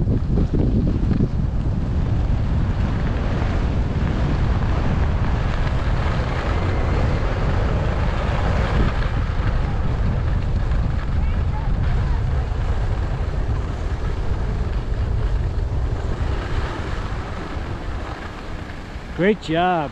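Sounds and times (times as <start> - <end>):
wind rushing over microphone: 0.0 - 19.9
skis sliding on snow: 2.8 - 19.9.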